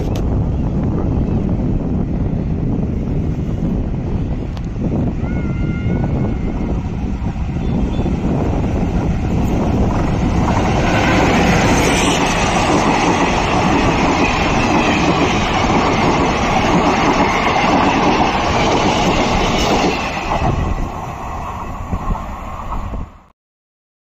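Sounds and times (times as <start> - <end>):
diesel passenger train passing: 0.3 - 23.3.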